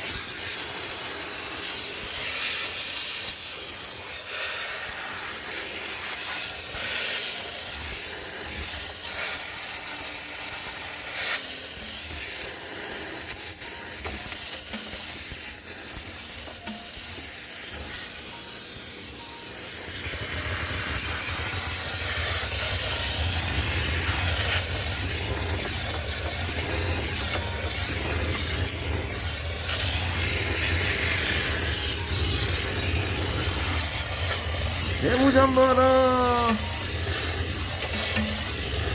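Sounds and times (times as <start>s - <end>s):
steam cleaner hissing: 0.0s - 38.9s.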